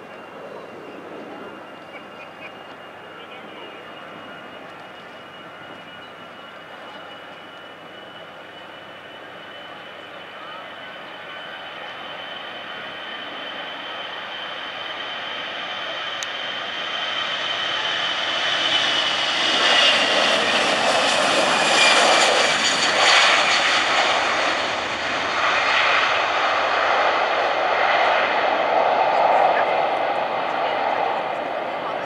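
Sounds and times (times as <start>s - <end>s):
high jet engine whine: 0.0s - 32.0s
jet engines at takeoff: 0.0s - 32.0s.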